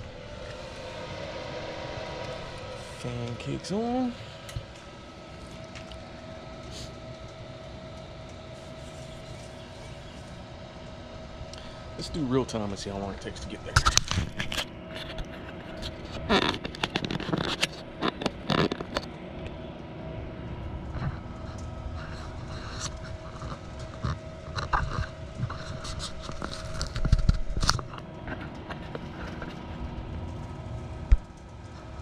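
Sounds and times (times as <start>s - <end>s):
blower fan running: 0.0s - 32.0s.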